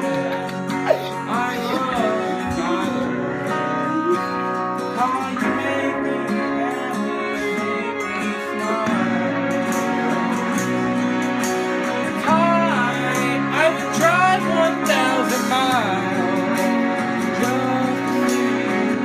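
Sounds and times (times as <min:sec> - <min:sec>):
guitar-led music with steady beat: 0:00.0 - 0:19.0.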